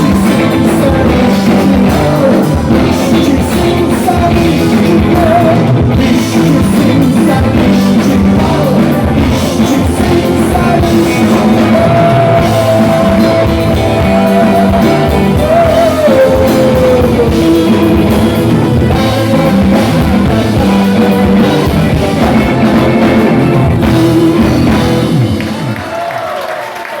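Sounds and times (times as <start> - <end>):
singer holding long note: 0.0 - 26.0
rock band playing: 0.0 - 26.2.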